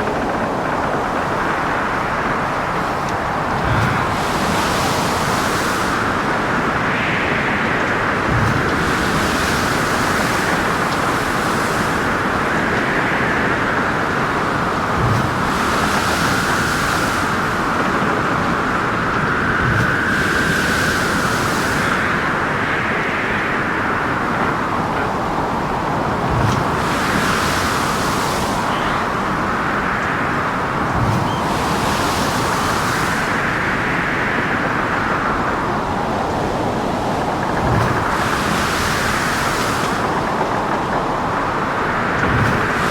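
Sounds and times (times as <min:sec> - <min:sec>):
howling wind: 0:00.0 - 0:42.9
wind and waves roaring: 0:00.0 - 0:42.9.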